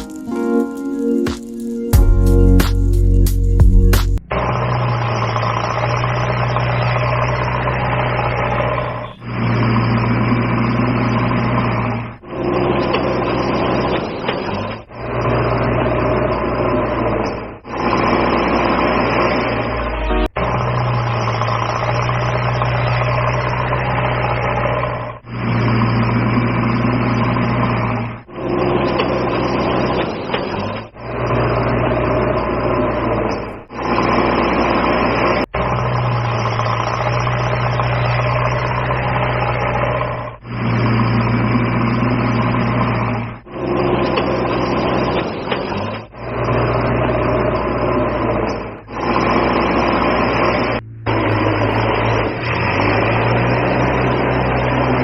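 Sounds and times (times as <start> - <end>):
engine-like low drone: 0.0 - 55.0.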